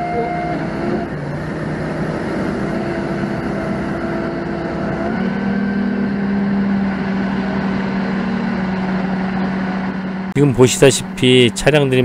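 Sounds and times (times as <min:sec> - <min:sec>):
forklift engine humming: 0:00.0 - 0:12.0.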